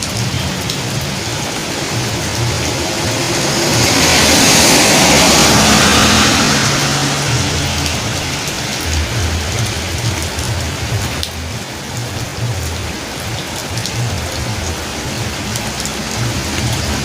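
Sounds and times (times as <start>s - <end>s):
rain falling on a road: 0.0s - 17.0s.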